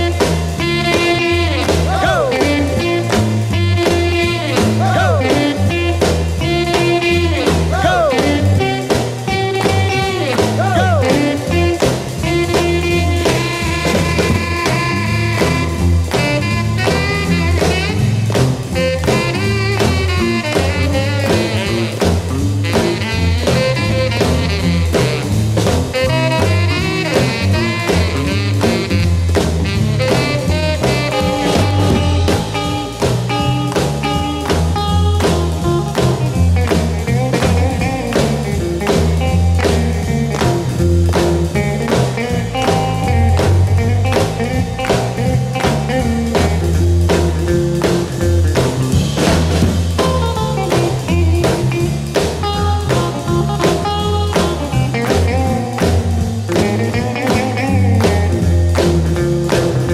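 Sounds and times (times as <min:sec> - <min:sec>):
instrumental rock and roll music: 0:00.0 - 0:59.9.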